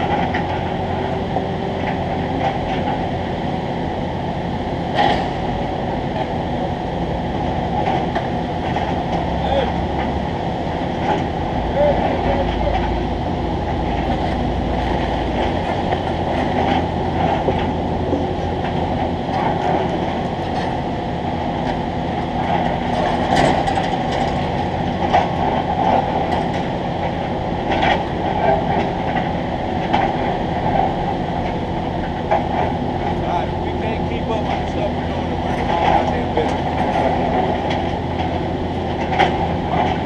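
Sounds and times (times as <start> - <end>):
construction machine rumble: 0.0 - 40.0.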